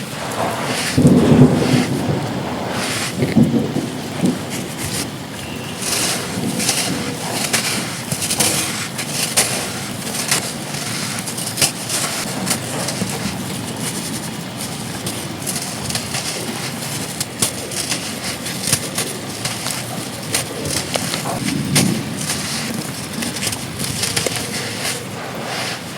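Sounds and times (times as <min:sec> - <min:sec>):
rain: 0:00.0 - 0:25.9
sand crumbling and crunching: 0:00.0 - 0:25.9
wind: 0:00.0 - 0:25.9.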